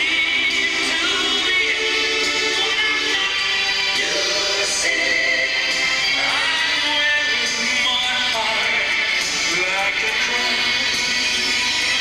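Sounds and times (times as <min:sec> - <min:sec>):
music with singing voice: 0:00.0 - 0:12.0.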